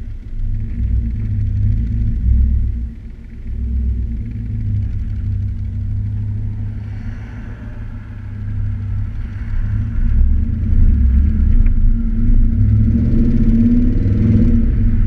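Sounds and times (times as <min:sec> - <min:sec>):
car exhaust rumble: 0:00.0 - 0:15.0.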